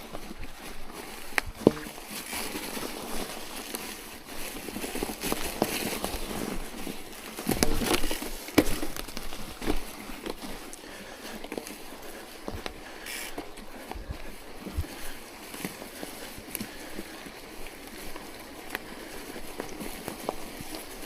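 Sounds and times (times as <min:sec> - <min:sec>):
snow crunching: 0:00.0 - 0:21.0.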